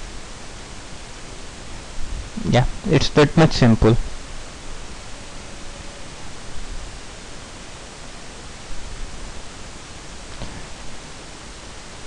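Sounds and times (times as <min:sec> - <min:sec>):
recording hiss: 0:00.0 - 0:12.0.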